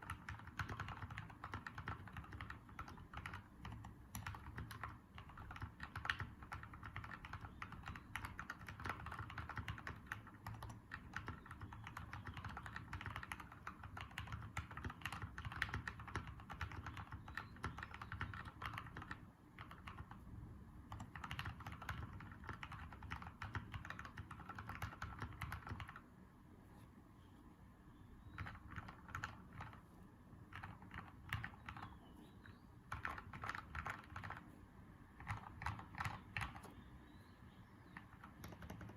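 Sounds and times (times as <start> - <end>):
fast mechanical keyboard typing: 0.0 - 20.3, 20.9 - 26.0, 28.2 - 34.6, 35.2 - 36.9, 37.9 - 38.9.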